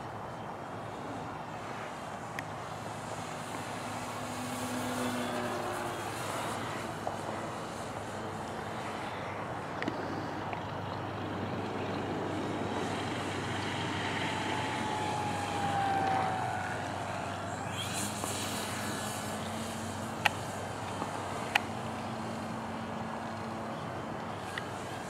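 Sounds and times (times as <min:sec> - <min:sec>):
steady propeller drone: 0:00.0 - 0:25.0
model airplane motor whine: 0:02.2 - 0:10.6, 0:12.0 - 0:25.0.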